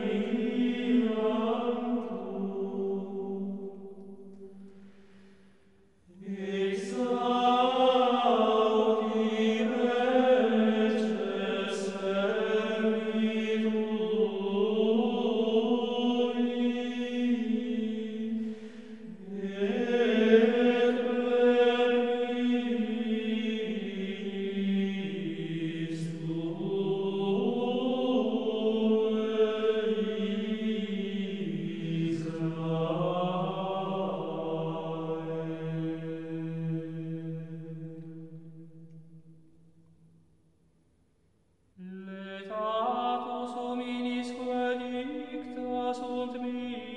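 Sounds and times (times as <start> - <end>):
slow chant-like music: 0.0 - 40.7, 41.7 - 46.9.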